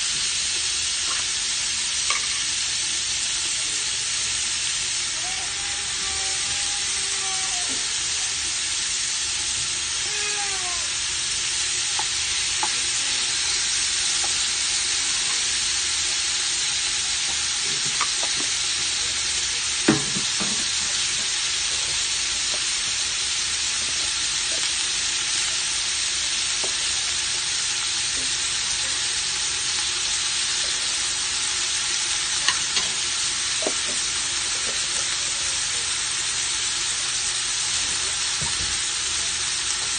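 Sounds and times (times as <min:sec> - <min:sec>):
chicken sizzling in a pot: 0:00.0 - 0:39.9.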